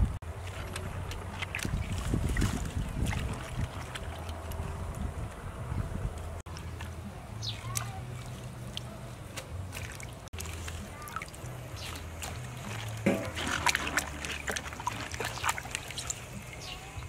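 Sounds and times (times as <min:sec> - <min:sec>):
water sloshing in a steel basin: 0:00.2 - 0:05.6, 0:06.5 - 0:17.0.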